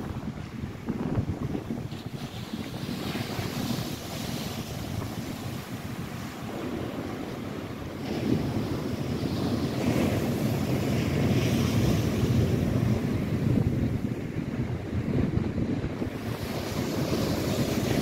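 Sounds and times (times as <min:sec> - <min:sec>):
waves breaking on shore: 0:00.0 - 0:18.0
wind buffeting microphone: 0:00.0 - 0:18.0.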